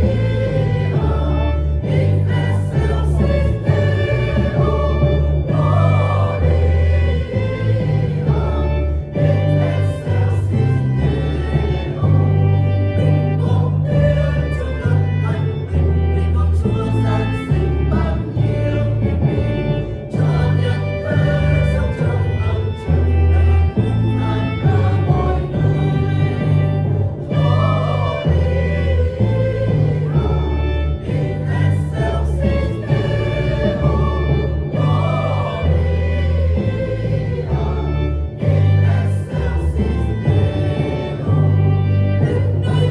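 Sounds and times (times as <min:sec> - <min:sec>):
church choir singing a hymn: 0:00.0 - 0:42.9
instrumental accompaniment: 0:00.0 - 0:42.9.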